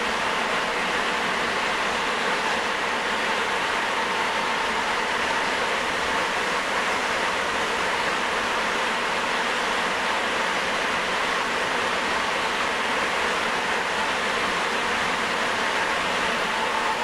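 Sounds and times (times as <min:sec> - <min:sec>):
subway train running: 0:00.0 - 0:17.0.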